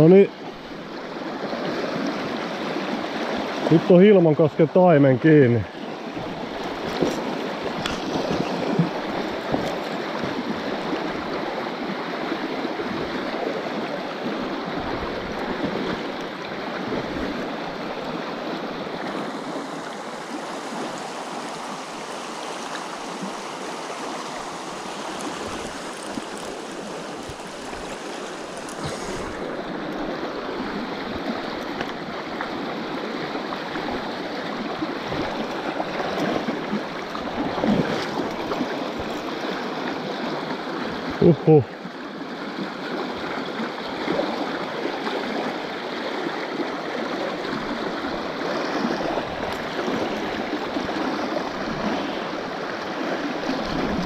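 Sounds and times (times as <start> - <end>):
whitewater rushing: 0.0 - 41.8, 42.7 - 54.0.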